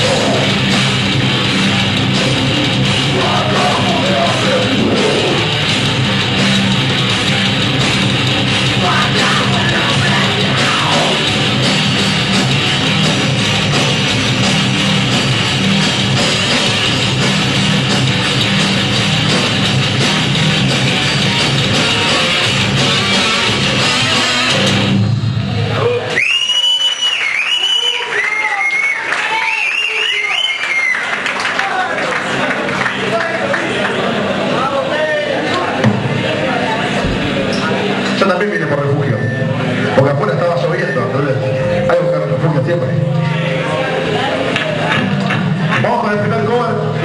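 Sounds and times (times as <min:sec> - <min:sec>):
distorted electric guitars: 0:00.0 - 0:26.2, 0:32.2 - 0:47.0
drums: 0:00.0 - 0:31.3, 0:32.1 - 0:47.0.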